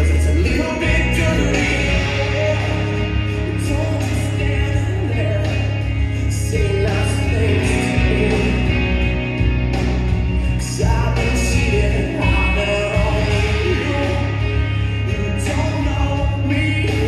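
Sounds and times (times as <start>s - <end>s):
singing over bass and beat: 0.0s - 17.0s.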